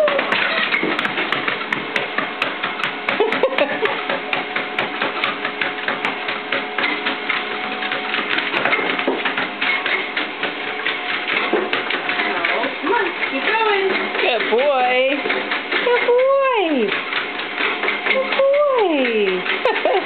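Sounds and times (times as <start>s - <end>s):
dog paws on treadmill belt: 0.0s - 20.0s
treadmill motor humming: 0.0s - 20.0s.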